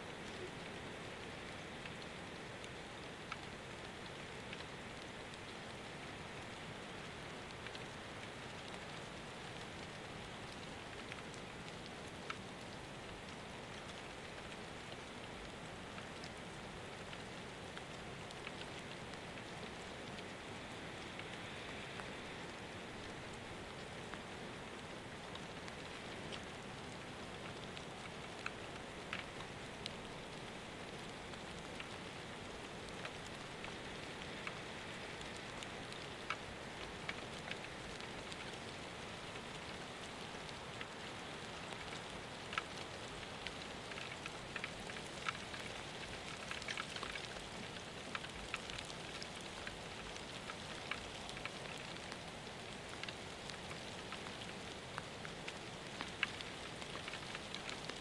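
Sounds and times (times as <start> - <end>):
light rain hiss: 0.0 - 58.0
raindrop ticks: 0.0 - 58.0.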